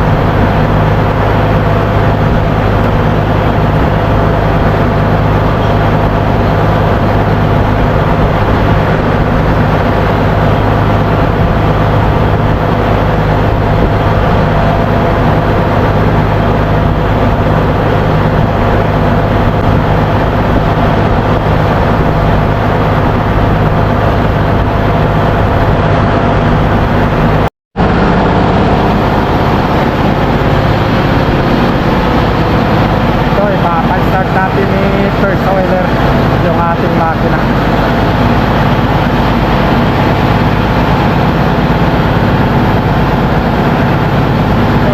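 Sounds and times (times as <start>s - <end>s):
engine-room machinery drone: 0.0s - 44.9s
low hum: 0.0s - 44.9s
steady higher tones: 0.0s - 44.9s.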